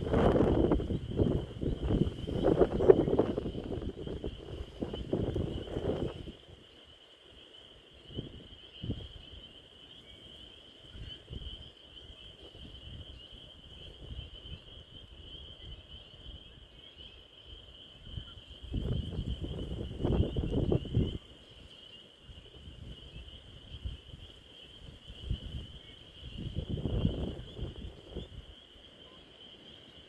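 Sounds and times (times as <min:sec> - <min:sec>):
frogs peeping in chorus: 0:00.0 - 0:30.0.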